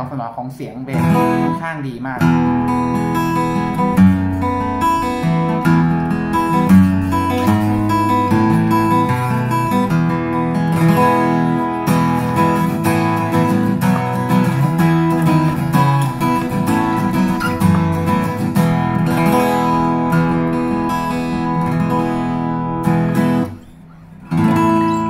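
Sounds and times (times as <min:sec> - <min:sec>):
acoustic guitar strummed and picked: 0:00.8 - 0:25.0.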